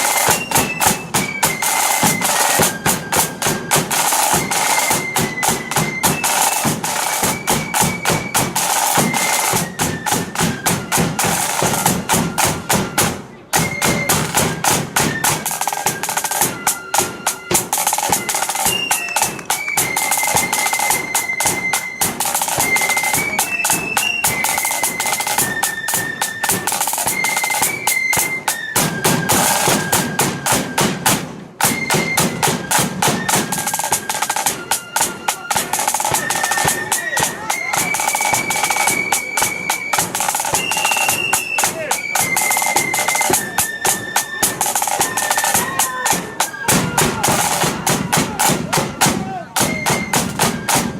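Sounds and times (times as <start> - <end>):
flutes playing high melody: 0.0 - 50.9
snare drum rolls: 0.0 - 50.9.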